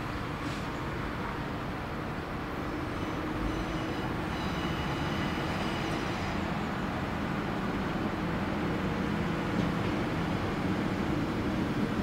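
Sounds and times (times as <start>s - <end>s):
diesel railcar engine rumble: 0.0s - 12.0s.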